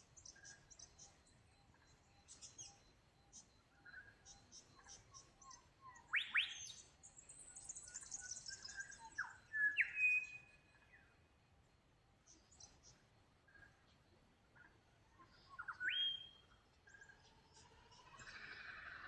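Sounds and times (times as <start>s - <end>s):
birds singing: 0.0s - 19.0s.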